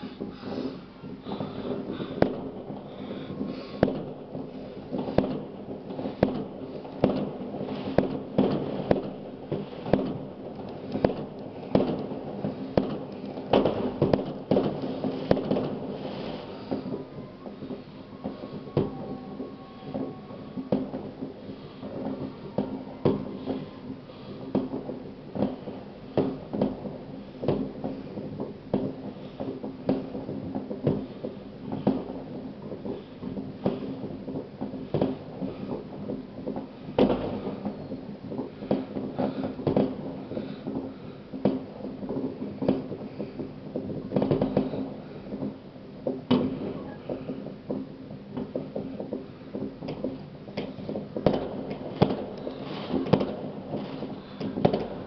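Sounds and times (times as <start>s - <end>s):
distant fireworks and firecrackers: 0.0s - 55.0s.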